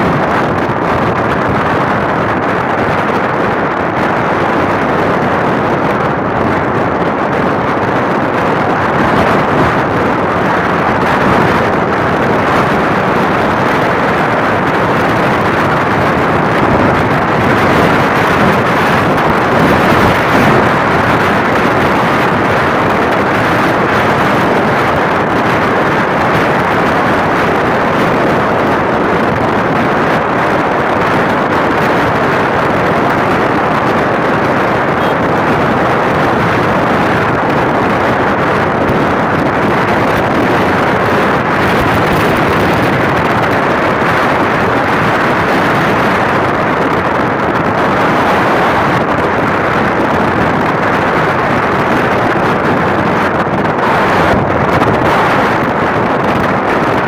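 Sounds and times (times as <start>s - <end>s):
motorcycle road noise: 0.0s - 57.0s
wind rush on microphone: 0.0s - 57.0s.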